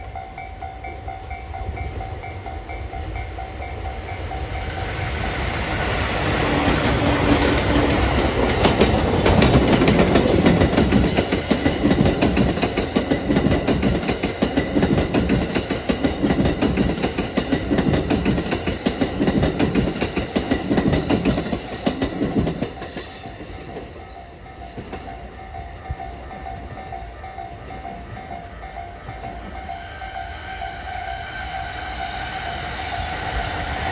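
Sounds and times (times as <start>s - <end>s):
locomotive passing: 0.1s - 33.9s
train wheel clatter: 1.2s - 29.5s.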